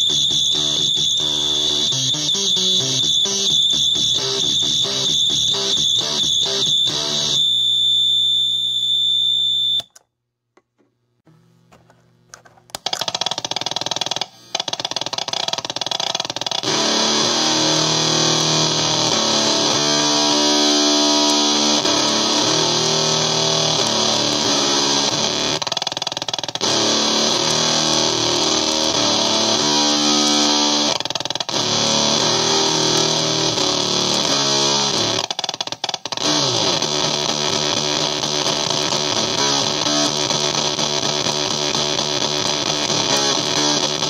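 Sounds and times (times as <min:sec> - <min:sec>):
fuzz electric guitar riff: 0:00.0 - 0:07.5, 0:15.3 - 0:44.0.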